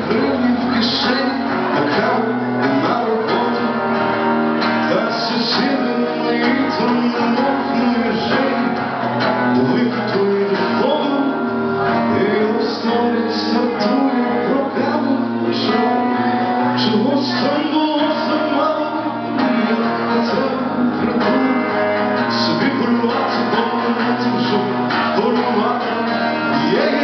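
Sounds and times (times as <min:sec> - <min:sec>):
strummed acoustic guitar: 0:00.0 - 0:27.0.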